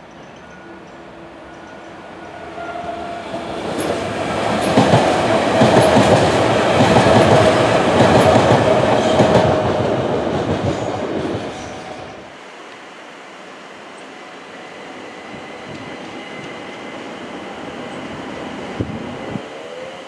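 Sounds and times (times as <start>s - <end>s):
electric train whine: 0.0s - 20.0s.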